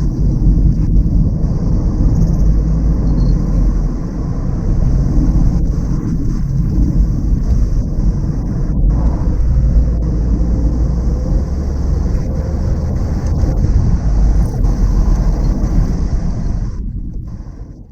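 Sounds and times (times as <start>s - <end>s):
car engine and road noise: 0.0s - 17.9s
wind rumble on microphone: 0.0s - 17.9s.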